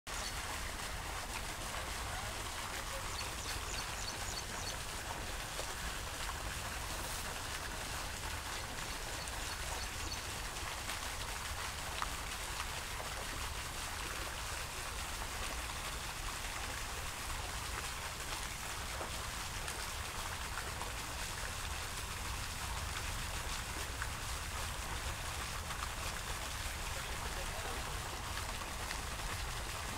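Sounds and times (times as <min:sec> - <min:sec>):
running water: 0:00.1 - 0:29.9.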